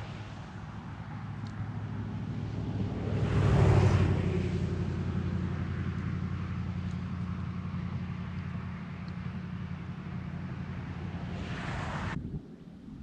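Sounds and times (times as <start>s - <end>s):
vehicle passing: 0.0s - 12.2s
low hum of road traffic: 0.0s - 13.0s.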